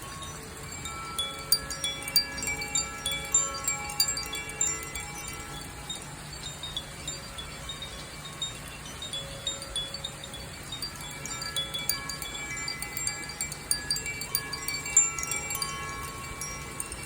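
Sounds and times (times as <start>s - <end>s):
metal chime ringing: 0.0s - 17.0s.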